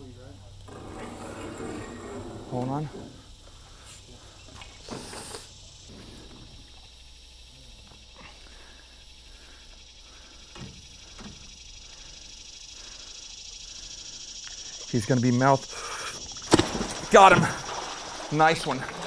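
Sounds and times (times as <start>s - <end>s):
high-pitched insect buzzing: 0.8s - 18.5s.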